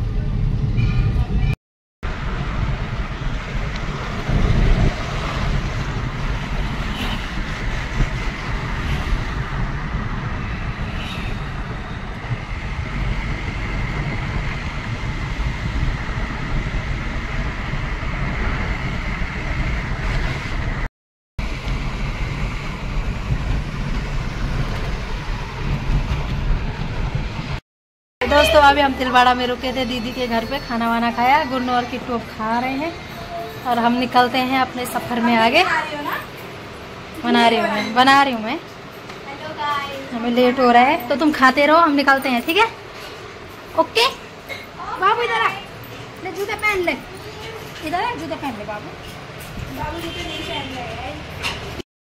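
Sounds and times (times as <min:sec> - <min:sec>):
car road and engine noise: 0:00.0 - 0:27.6, 0:28.2 - 0:51.8.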